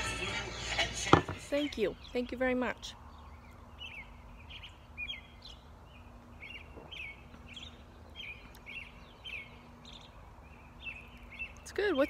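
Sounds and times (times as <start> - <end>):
small birds chirping: 1.4 - 12.0.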